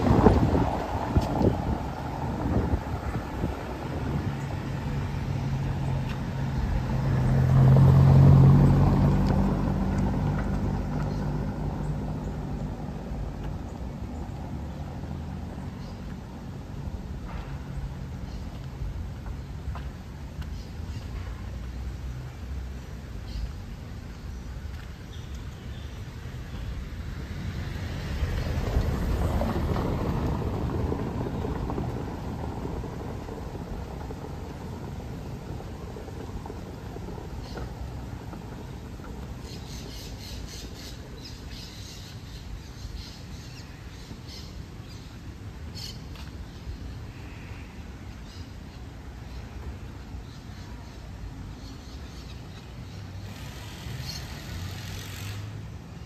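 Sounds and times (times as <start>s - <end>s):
car driving on cobblestones: 0.0s - 47.2s, 47.8s - 56.0s.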